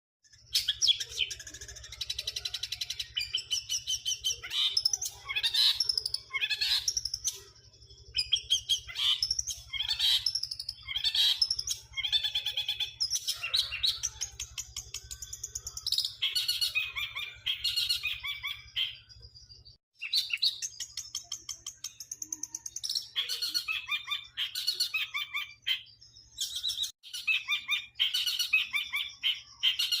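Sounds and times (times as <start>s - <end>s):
bird chattering song: 0.2s - 30.0s.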